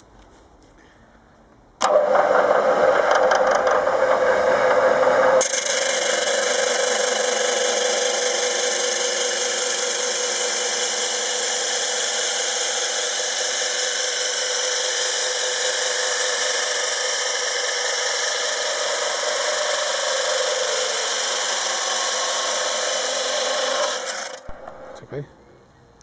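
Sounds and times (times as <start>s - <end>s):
cut-off disc grinding steel: 1.8s - 25.2s
saw motor running: 1.8s - 25.2s.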